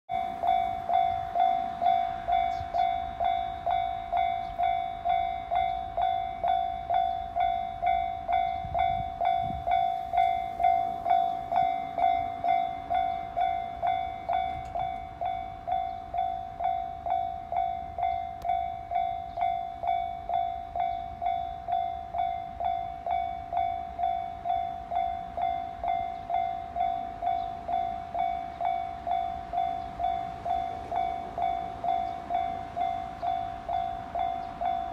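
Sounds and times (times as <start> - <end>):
level-crossing warning bell ringing: 0.1 - 34.9.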